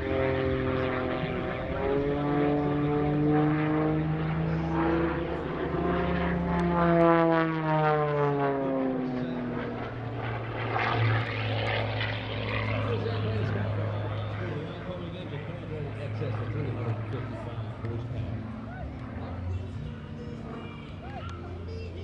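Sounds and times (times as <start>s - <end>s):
propeller plane engine droning: 0.0s - 22.0s.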